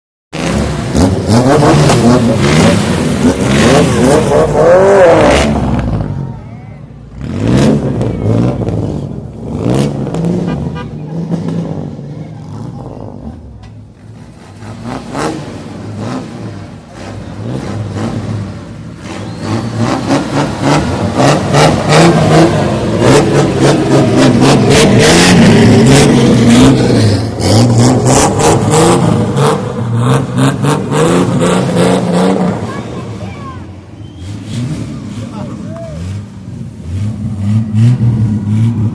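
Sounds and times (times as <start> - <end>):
car engines revving: 0.3 - 38.9.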